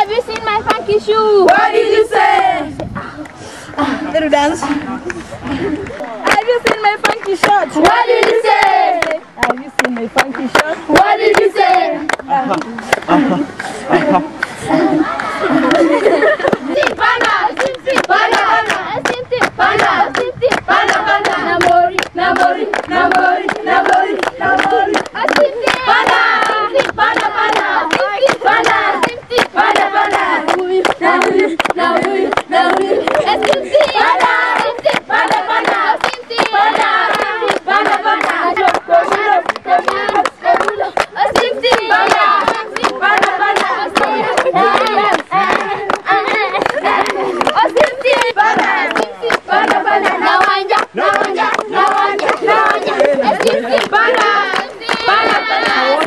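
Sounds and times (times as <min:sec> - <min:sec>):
rhythmic hand clapping: 0:00.0 - 0:00.8, 0:04.7 - 0:56.0
group singing in unison: 0:01.3 - 0:02.8, 0:06.3 - 0:09.3, 0:10.5 - 0:12.3, 0:13.1 - 0:56.0.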